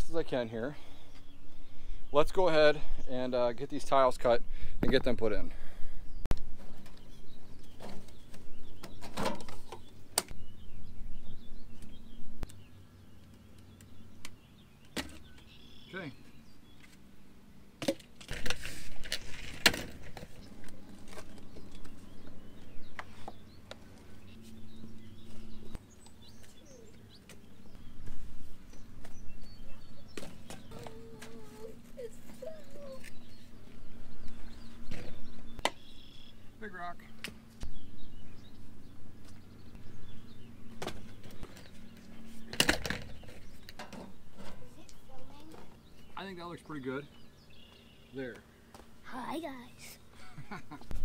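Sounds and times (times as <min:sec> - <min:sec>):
birds chirping faintly: 0:00.0 - 0:17.8, 0:19.0 - 0:51.0.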